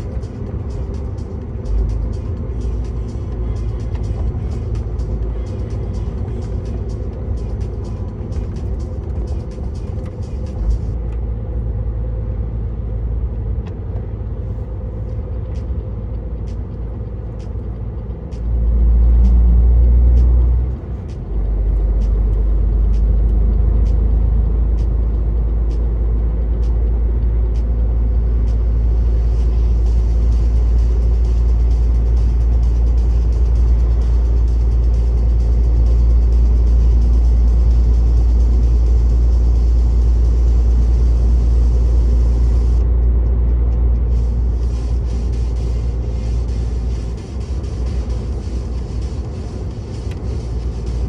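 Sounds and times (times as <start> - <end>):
truck diesel engine drone: 0.0 - 51.0.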